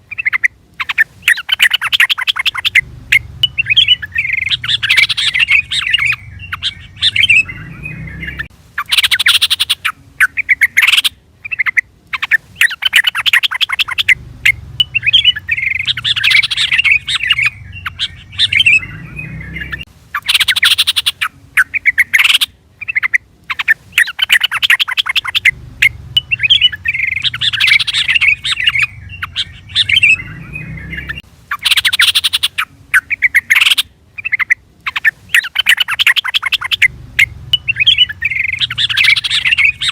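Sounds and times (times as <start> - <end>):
bulbul bubbling chattering call: 0.1 - 39.9.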